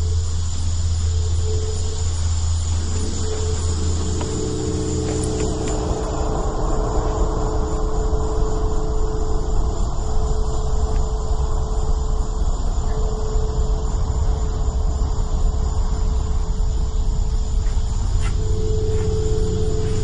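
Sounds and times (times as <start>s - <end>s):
droning tone: 0.0s - 20.0s
low rumble: 0.0s - 20.0s.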